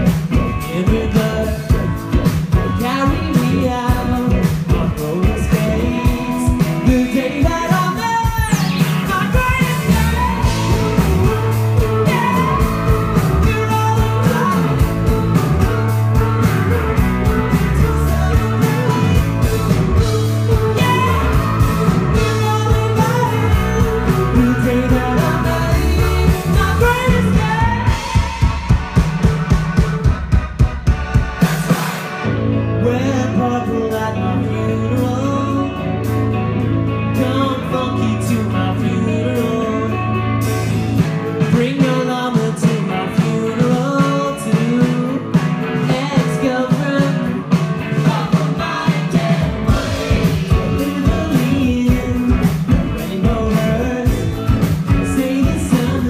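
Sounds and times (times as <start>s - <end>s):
person singing lead vocal: 0.0s - 29.4s, 32.6s - 56.0s
deep held bass line: 0.0s - 31.4s, 32.2s - 41.7s, 48.5s - 56.0s
live rock band playing: 0.0s - 56.0s.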